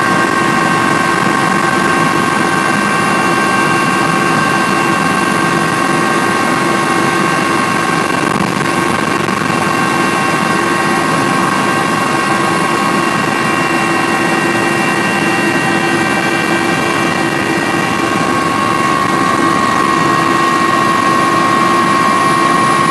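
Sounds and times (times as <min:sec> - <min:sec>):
engine drone with high whine: 0:00.0 - 0:22.9
rushing noise: 0:00.0 - 0:22.9.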